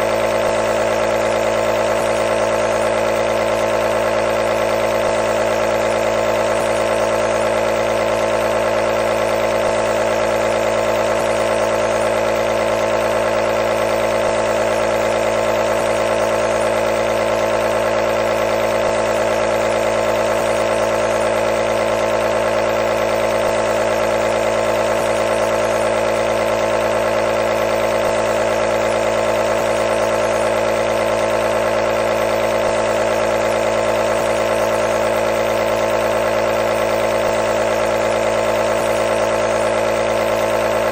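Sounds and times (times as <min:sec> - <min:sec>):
nebulizer humming: 0:00.0 - 0:40.9.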